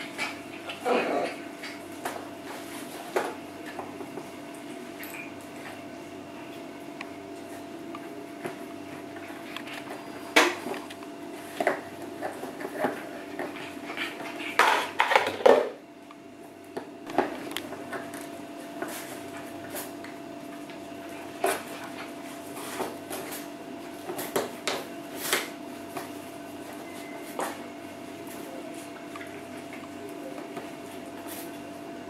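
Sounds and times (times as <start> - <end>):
puppies scrabbling on tiled floor: 0.0 - 15.8, 16.4 - 32.0.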